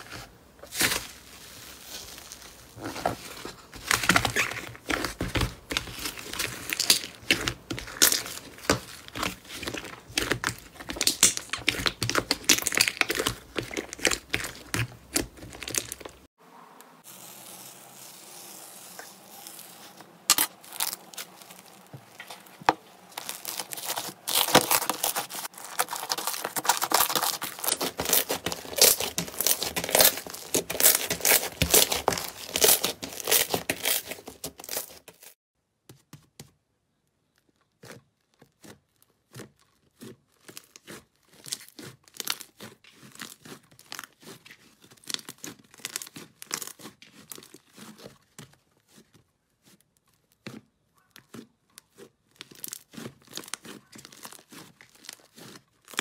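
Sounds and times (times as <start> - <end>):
slime crackling and popping: 3.9 - 16.3, 17.5 - 35.3, 38.1 - 49.0, 49.7 - 56.0.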